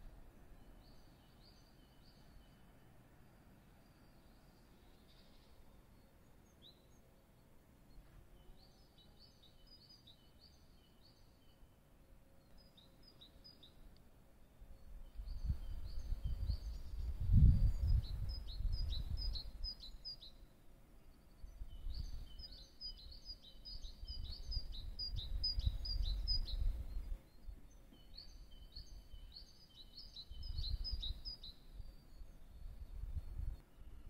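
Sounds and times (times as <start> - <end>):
small songbird chirping: 0.0 - 34.0.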